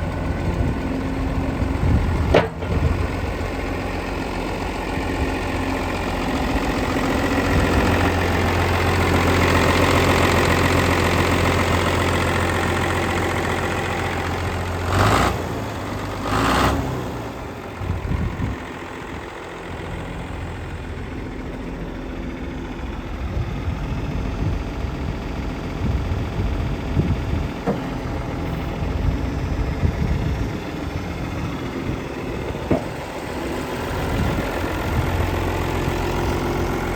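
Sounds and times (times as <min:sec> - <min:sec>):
tractor diesel engine idling: 0:00.0 - 0:36.9.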